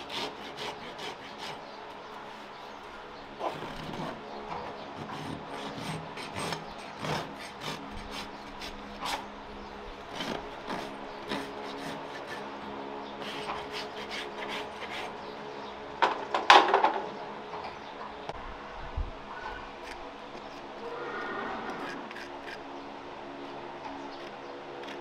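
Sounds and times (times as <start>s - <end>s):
rasp filing a hoof: 0.0s - 15.4s, 19.4s - 25.0s.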